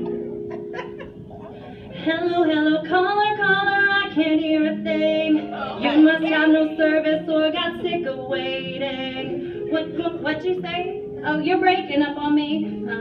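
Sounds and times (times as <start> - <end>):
woman singing: 1.9 - 13.0.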